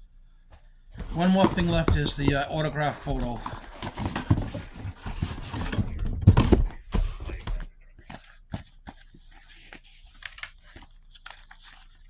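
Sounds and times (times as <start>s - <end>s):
items rustling and clicking: 0.5s - 12.0s.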